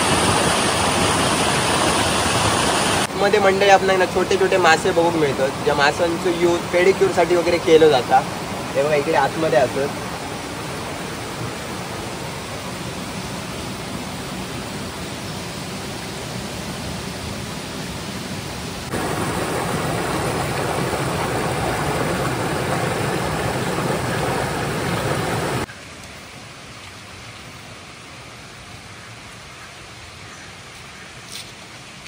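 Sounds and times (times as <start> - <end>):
stream water running over rocks: 0.0 - 29.5.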